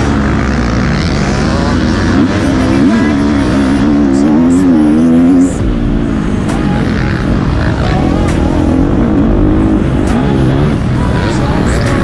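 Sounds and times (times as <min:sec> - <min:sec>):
motocross engine revving: 0:00.0 - 0:12.0.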